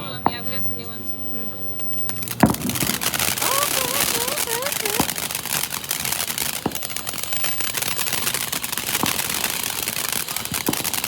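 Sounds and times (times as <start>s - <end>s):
ground firework crackling and hissing: 0.0s - 11.0s
sharp firework pops: 0.0s - 11.0s.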